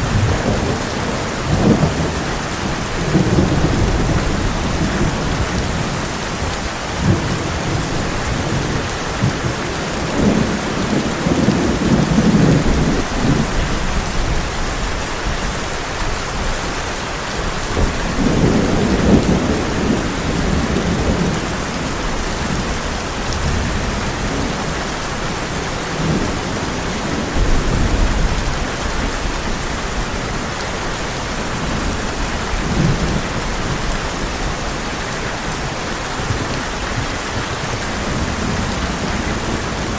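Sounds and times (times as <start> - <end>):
rolling thunder: 0.0 - 15.6, 17.4 - 39.9
heavy rain on a tin roof: 0.0 - 39.9.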